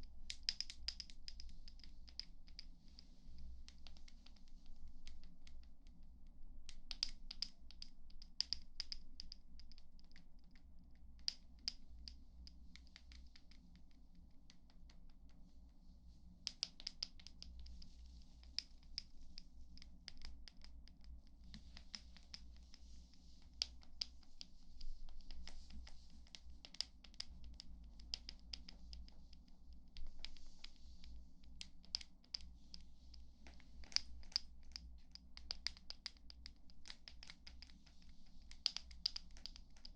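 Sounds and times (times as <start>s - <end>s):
soft brushing hiss: 0.0s - 39.9s.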